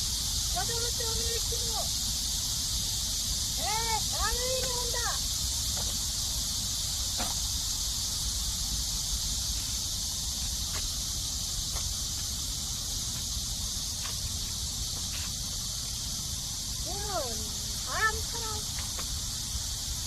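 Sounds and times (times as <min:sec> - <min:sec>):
grass insects chirring: 0:00.0 - 0:20.0.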